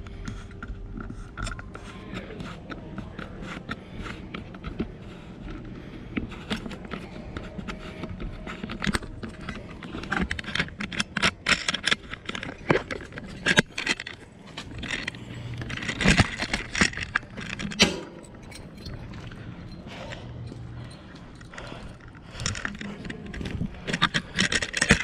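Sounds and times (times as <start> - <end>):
bicycle rattling and clicking: 0.0 - 25.0.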